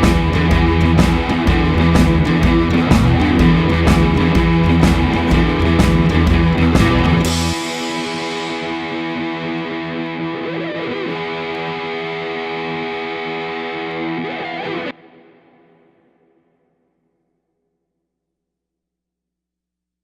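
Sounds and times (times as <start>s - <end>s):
distorted electric guitar chord: 0.0s - 16.4s.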